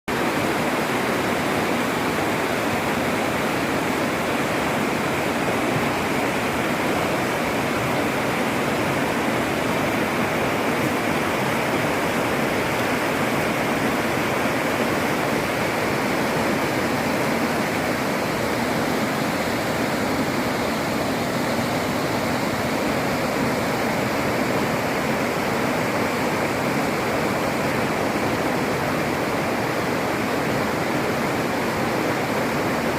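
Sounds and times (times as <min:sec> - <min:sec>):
river water rushing: 0:00.1 - 0:32.9.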